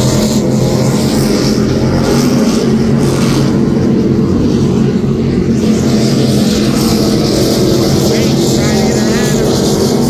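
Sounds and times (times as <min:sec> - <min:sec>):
powerboat engines droning: 0:00.0 - 0:10.0.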